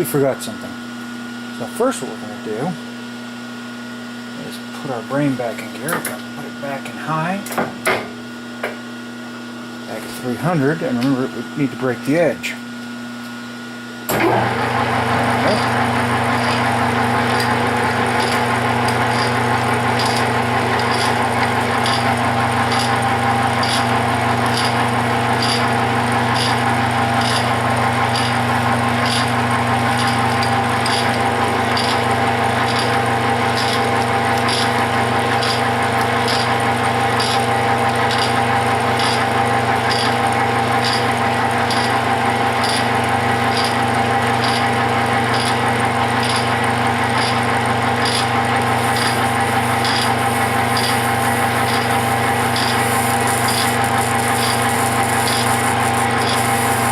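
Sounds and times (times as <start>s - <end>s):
metal lathe motor and gear hum: 0.8s - 56.9s.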